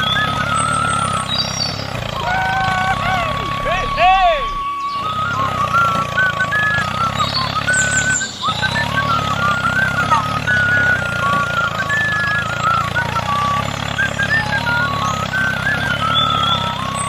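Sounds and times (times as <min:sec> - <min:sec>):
high wavering tune: 0:00.0 - 0:17.0
tractor engine running: 0:00.0 - 0:17.0.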